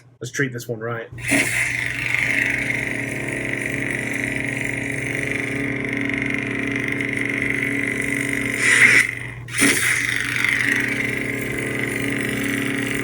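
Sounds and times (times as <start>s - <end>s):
lightsaber idle hum: 1.2s - 13.0s.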